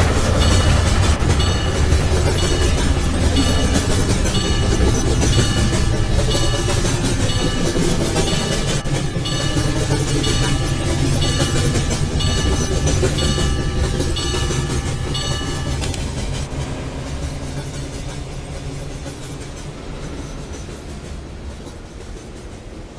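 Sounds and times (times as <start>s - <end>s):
train wheels rumbling: 0.0s - 22.9s
level crossing bell ringing: 0.1s - 20.8s.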